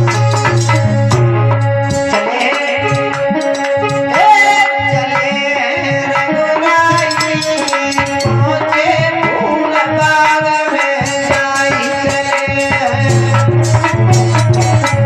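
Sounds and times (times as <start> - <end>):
sustained melody instrument: 0.0 - 10.0, 11.2 - 15.0
tabla playing a rhythm: 0.0 - 15.0.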